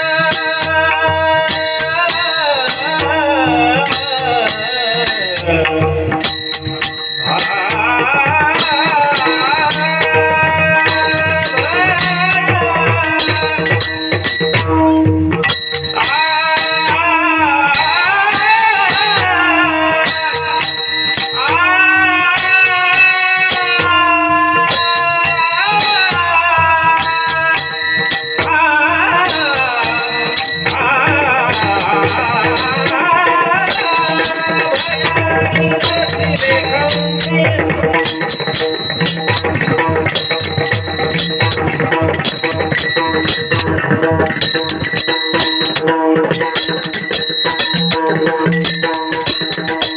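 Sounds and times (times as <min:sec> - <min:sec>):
drum strokes: 0:00.0 - 0:49.9
voices singing: 0:00.0 - 0:49.9.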